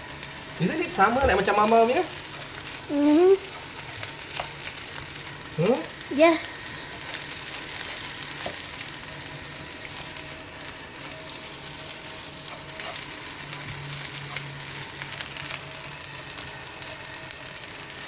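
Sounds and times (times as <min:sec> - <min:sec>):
rice sizzling in hot oil: 0:00.0 - 0:18.0.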